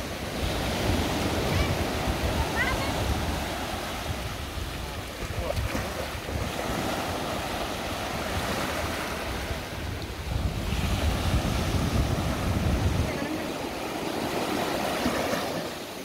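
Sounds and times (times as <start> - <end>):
wind buffeting microphone: 0.0 - 15.6
small waves breaking on sand: 0.0 - 16.0.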